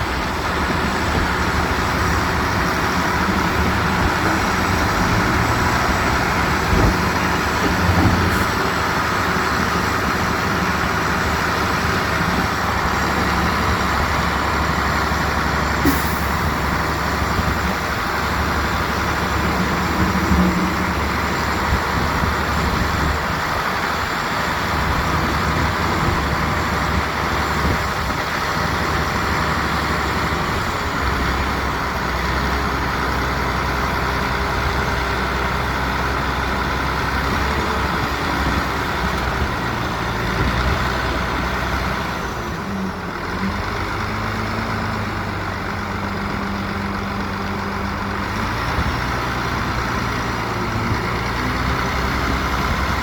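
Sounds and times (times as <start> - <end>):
heavy diesel machinery engines: 0.0 - 53.0.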